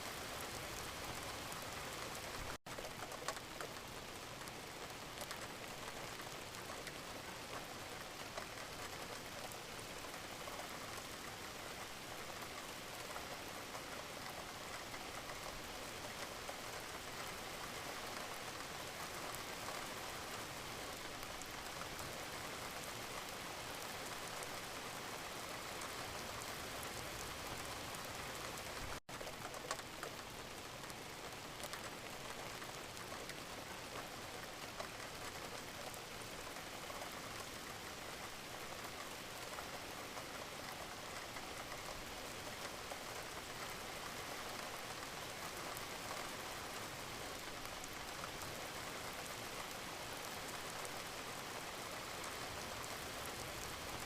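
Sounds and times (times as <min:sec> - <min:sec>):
gentle rain falling: 0:00.0 - 0:54.0
raindrops ticking: 0:00.1 - 0:54.0.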